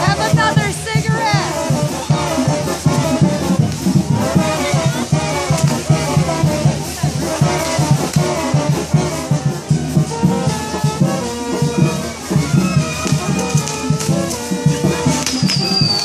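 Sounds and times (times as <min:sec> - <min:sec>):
brass band music: 0:00.0 - 0:16.0
rattling percussion: 0:00.0 - 0:16.0.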